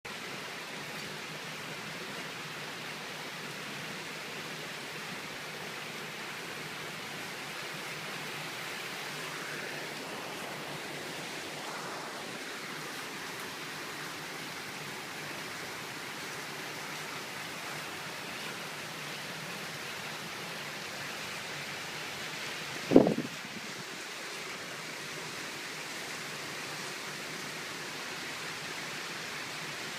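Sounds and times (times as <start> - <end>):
rain: 0.0 - 29.9
wind: 0.0 - 29.9.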